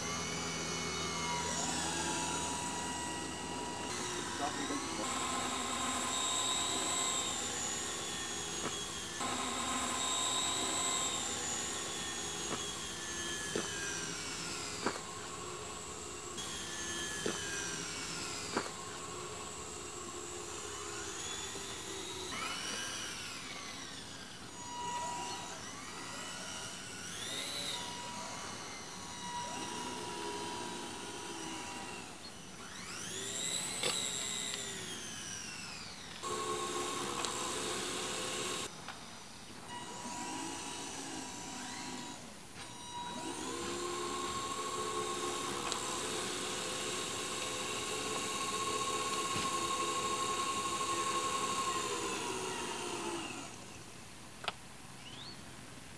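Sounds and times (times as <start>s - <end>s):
high-pitched jet engine whine: 0.0s - 54.2s.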